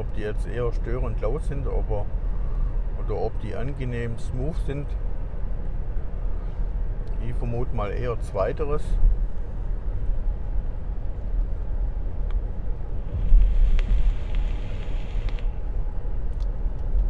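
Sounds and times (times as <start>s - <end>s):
car cabin road rumble: 0.0s - 17.0s
soft airflow hiss: 0.0s - 17.0s.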